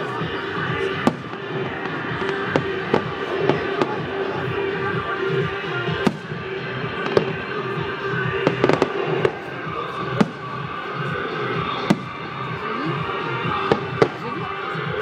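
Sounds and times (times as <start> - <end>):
fireworks exploding: 0.0 - 15.0
music playing: 0.0 - 15.0.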